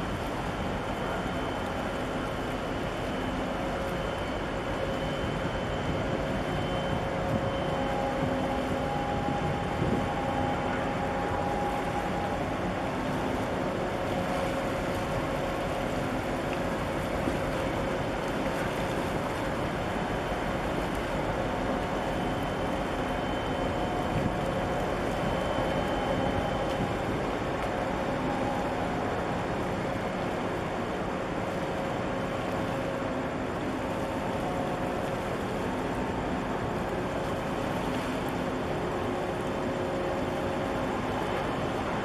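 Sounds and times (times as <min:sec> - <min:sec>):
ship machinery hum: 0:00.0 - 0:42.0
wind and water hiss: 0:00.0 - 0:42.0.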